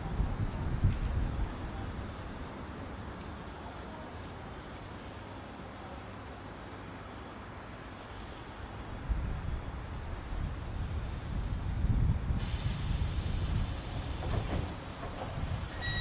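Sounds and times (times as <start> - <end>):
electric train rumbling on track: 0.0 - 16.0.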